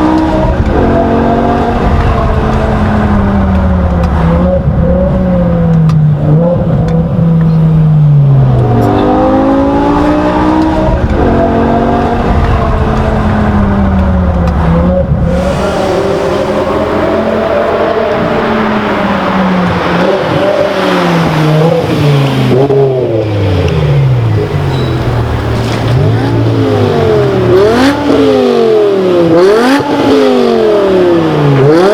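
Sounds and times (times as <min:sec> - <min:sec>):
car engine revving through gears: 0:00.0 - 0:31.9.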